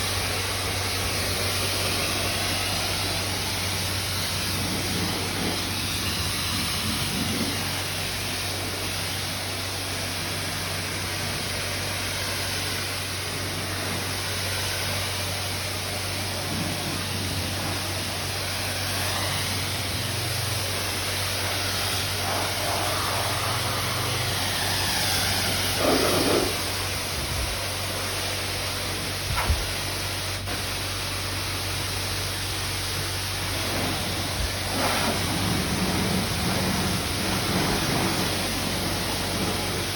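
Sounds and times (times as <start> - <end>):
water spray hissing: 0.0 - 39.9.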